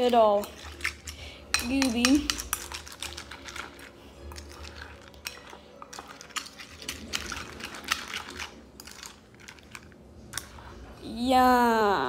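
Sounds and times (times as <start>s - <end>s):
spoon scraping ceramic bowl: 0.3s - 10.7s.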